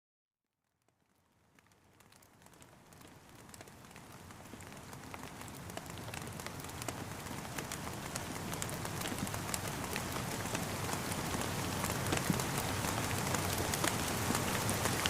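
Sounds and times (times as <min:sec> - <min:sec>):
rain falling: 0:01.0 - 0:15.0.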